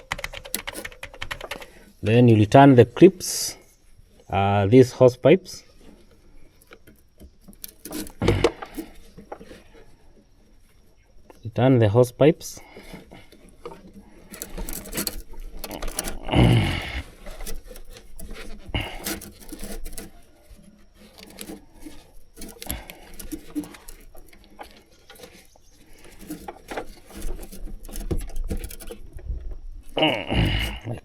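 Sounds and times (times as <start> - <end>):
hands working rubber hoses: 0.0 - 2.0, 5.6 - 11.4, 12.4 - 31.0.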